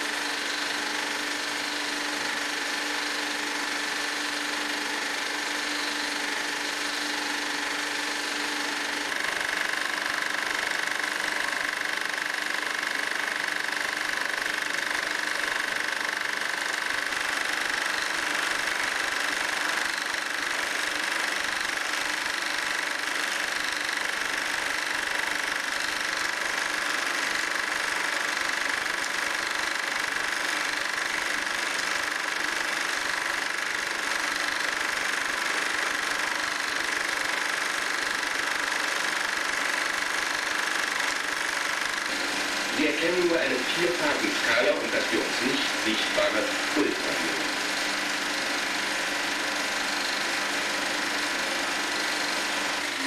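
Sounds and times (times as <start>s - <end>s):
film projector running: 0.0s - 53.0s.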